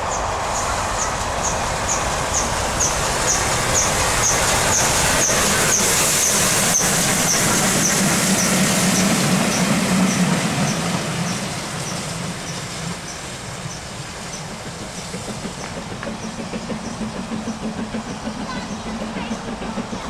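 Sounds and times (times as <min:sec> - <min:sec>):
steam locomotive exhaust chuffing: 0:00.0 - 0:20.0
steam locomotive passing: 0:00.0 - 0:20.0.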